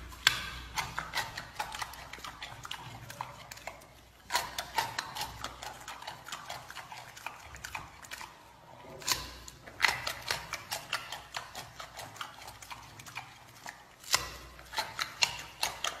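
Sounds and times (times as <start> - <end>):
panda chewing carrot crunches: 0.0 - 16.0.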